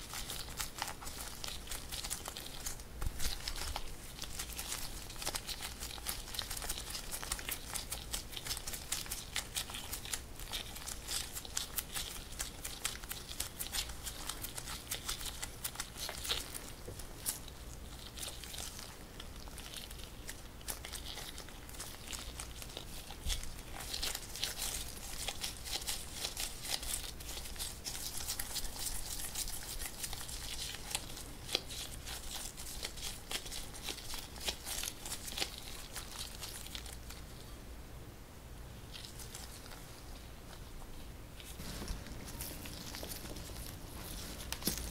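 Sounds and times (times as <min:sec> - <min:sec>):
plastic gloves crinkling: 0:00.0 - 0:37.7, 0:38.8 - 0:44.9
faint low hum: 0:00.0 - 0:44.9.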